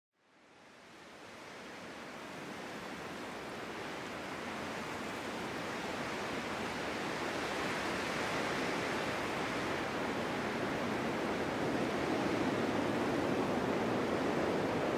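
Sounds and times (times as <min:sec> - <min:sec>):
snowstorm wind rushing: 0:02.4 - 0:14.9.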